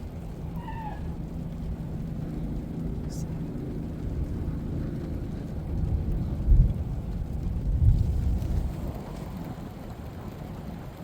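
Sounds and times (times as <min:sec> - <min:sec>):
thunder rumbling: 0:00.0 - 0:10.3.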